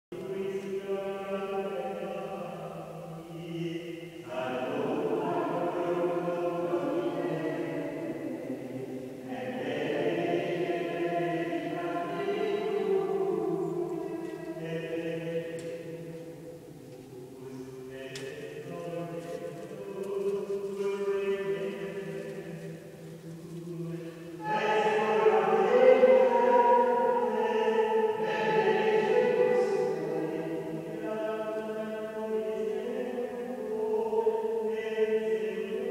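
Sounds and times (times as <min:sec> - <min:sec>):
sung liturgical chant: 0:00.1 - 0:35.9.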